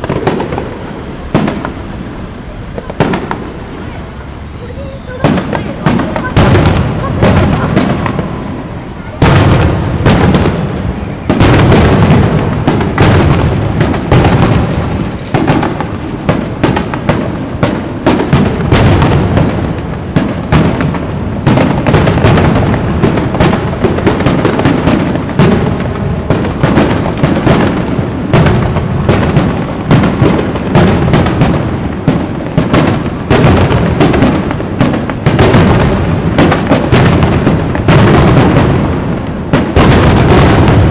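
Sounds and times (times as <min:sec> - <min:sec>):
fireworks booming and crackling: 0:00.0 - 0:40.9.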